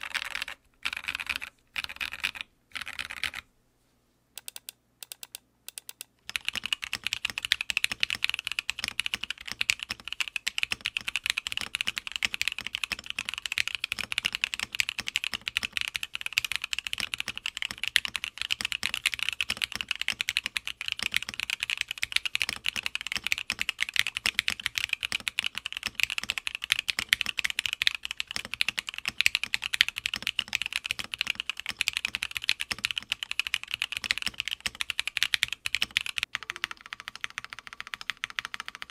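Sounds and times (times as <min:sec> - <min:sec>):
fast typing on mechanical keyboard: 0:00.0 - 0:03.4, 0:04.4 - 0:38.9.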